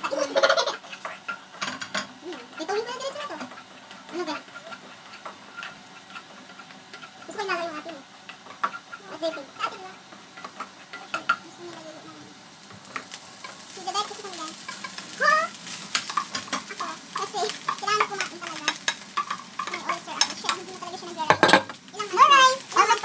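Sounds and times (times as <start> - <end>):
rice sizzling in frying pan: 0.0 - 23.0
spatula scraping and tapping pan: 0.8 - 11.5, 12.8 - 15.1, 15.7 - 22.5.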